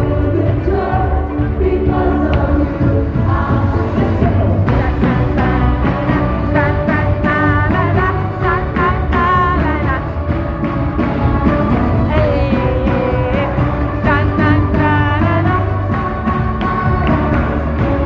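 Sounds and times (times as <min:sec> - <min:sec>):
band playing with steady beat: 0:00.0 - 0:18.0
voices singing: 0:00.0 - 0:18.0.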